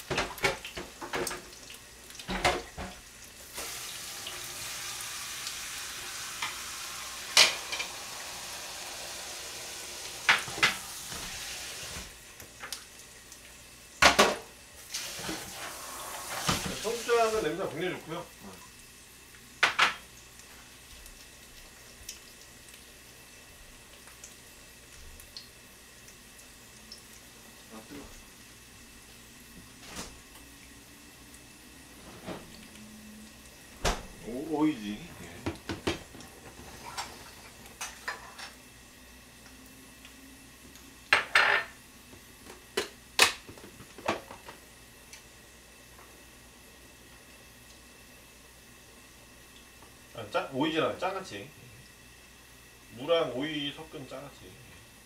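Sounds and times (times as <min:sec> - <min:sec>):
pot hissing on stove: 0:02.7 - 0:55.0.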